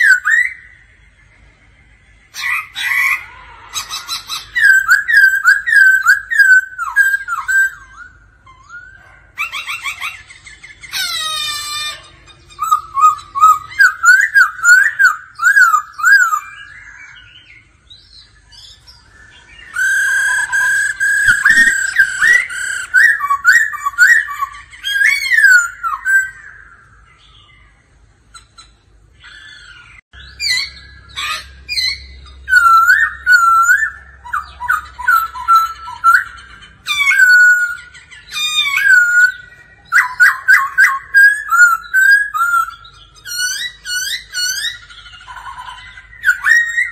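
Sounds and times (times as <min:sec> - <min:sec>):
bird singing whistled phrases: 0:00.0 - 0:01.0, 0:02.2 - 0:27.8, 0:28.6 - 0:46.9.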